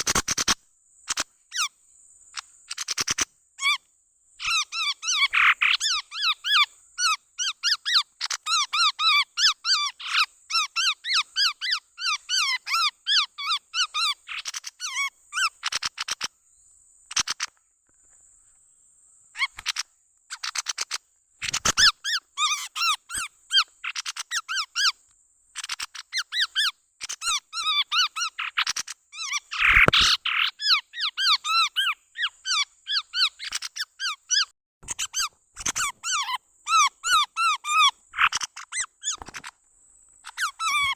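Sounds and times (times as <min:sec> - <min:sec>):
bird chirping rapidly: 0:00.0 - 0:03.8, 0:04.4 - 0:16.3, 0:19.3 - 0:39.5, 0:40.2 - 0:40.9.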